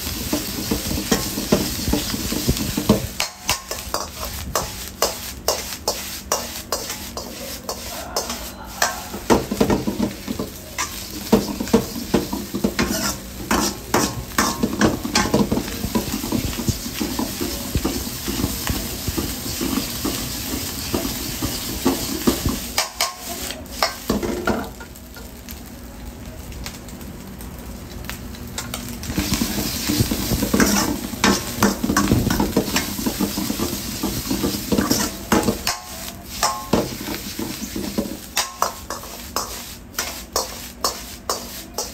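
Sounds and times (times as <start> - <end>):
noodles sizzling in a wok: 0.0 - 41.9.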